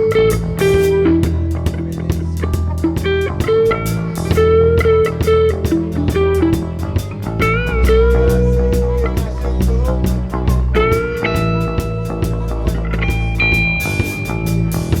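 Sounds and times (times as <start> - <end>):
bass guitar: 0.0 - 15.0
electric guitar lead melody: 0.0 - 15.0
steady drum beat: 0.0 - 15.0.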